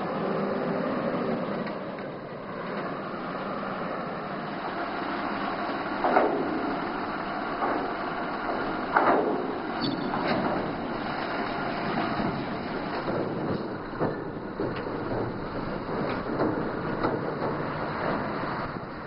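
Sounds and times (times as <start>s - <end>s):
truck diesel engine running: 2.2s - 19.0s.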